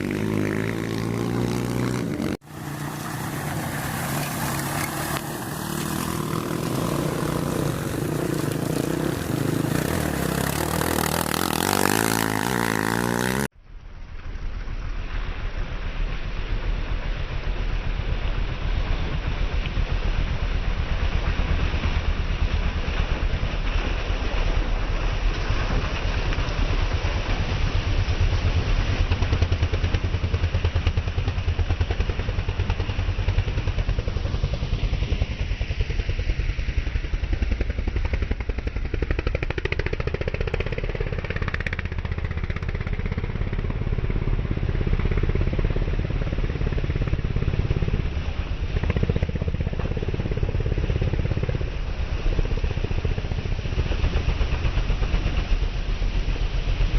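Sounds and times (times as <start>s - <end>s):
steady rush of noise: 0.0s - 56.9s.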